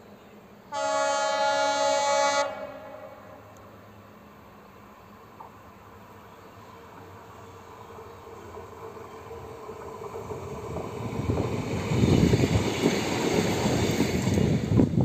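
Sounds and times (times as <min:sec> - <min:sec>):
diesel railcar passing: 0:00.0 - 0:15.0.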